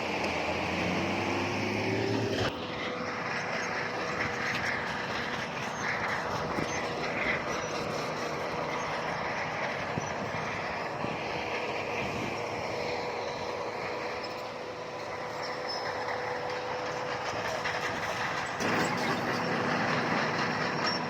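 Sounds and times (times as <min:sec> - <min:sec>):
diesel engine running: 0:00.0 - 0:21.0
steel tracks clanking: 0:02.3 - 0:21.0.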